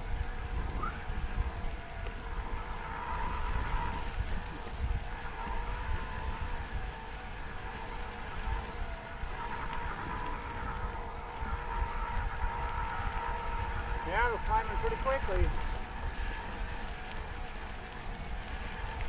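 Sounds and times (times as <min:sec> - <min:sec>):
electric bike motor whine: 0:00.0 - 0:19.0
wind on microphone: 0:00.0 - 0:19.0
tyres rumbling on dirt: 0:02.5 - 0:19.0.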